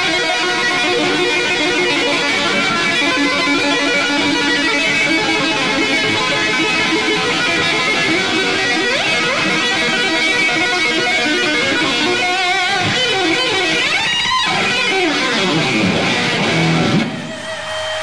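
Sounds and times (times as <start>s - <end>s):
electric guitar lead runs: 0.0s - 18.0s.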